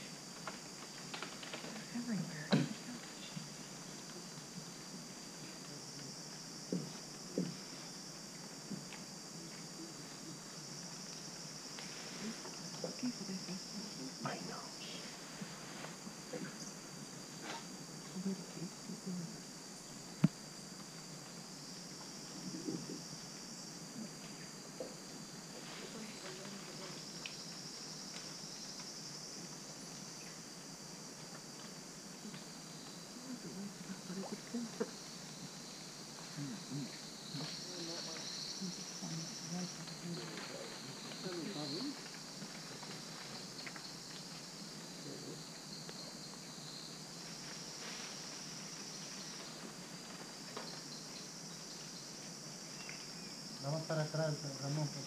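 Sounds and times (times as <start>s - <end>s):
insect buzzing drone: 0.0s - 55.0s.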